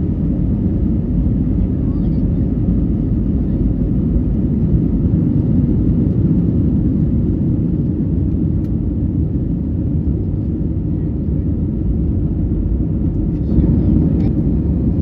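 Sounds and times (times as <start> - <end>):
jet engines roaring on takeoff: 0.0 - 15.0
rolling aircraft rumble: 0.0 - 15.0.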